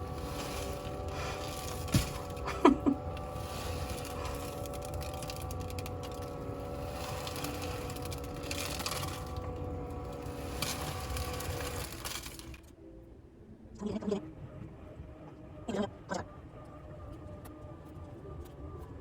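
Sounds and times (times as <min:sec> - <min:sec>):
small motor humming and rattling: 0:00.0 - 0:13.0, 0:14.3 - 0:19.0.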